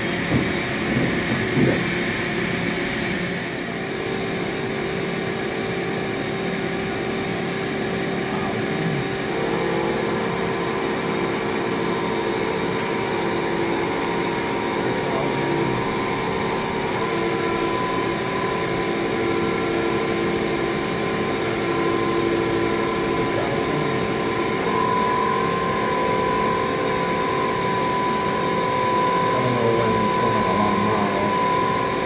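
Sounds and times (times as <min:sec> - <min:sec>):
high spindle whine: 0:00.0 - 0:32.0
machine hum: 0:00.0 - 0:32.0.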